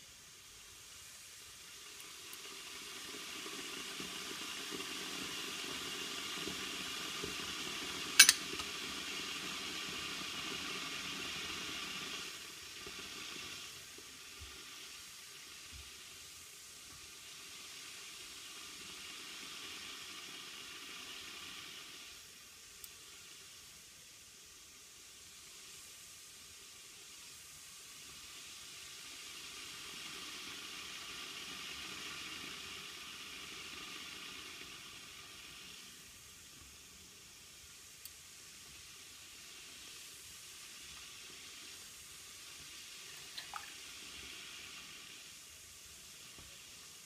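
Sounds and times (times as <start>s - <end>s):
espresso machine hissing: 0.0s - 47.0s.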